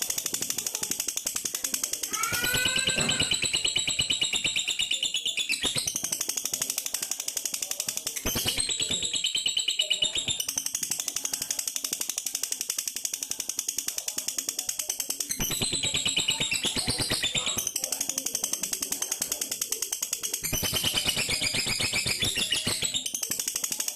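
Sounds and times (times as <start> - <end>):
bird chattering trill: 0.0 - 23.9.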